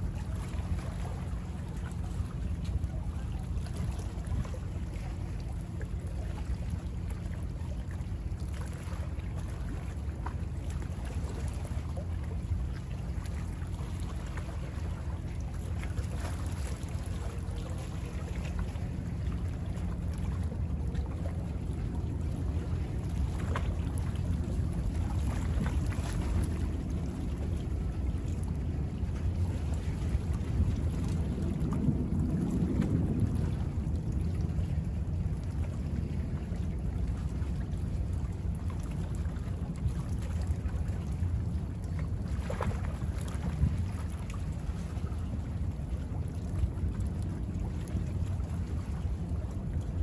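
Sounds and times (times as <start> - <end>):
steady low rumble: 0.0 - 50.0
waves lapping and splashing: 0.0 - 50.0.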